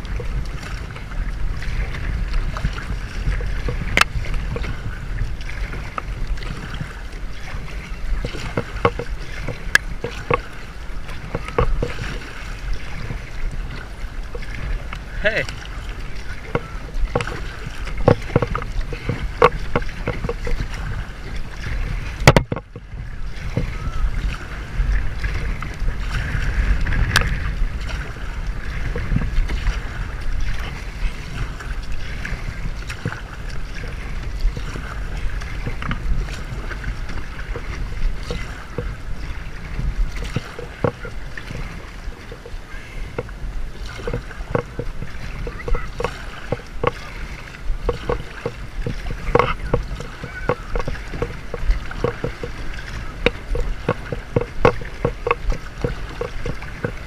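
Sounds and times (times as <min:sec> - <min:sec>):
paddle blades splashing: 0:00.0 - 0:57.0
paddle knocking against hull: 0:00.0 - 0:57.0.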